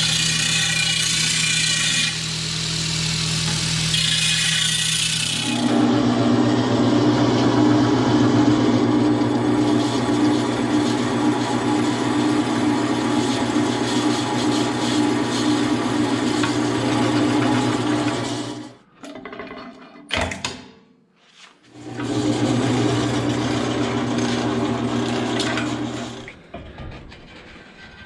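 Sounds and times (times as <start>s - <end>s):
power tool cutting metal: 0.0s - 18.7s, 21.8s - 26.4s.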